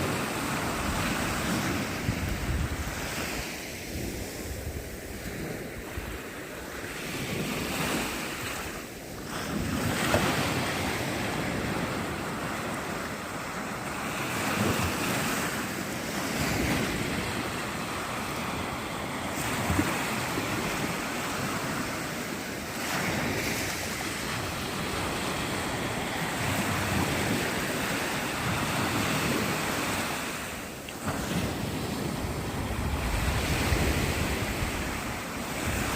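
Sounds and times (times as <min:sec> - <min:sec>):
wind buffeting microphone: 0:00.0 - 0:30.4, 0:31.0 - 0:35.9
surf washing onto shore: 0:00.0 - 0:35.9.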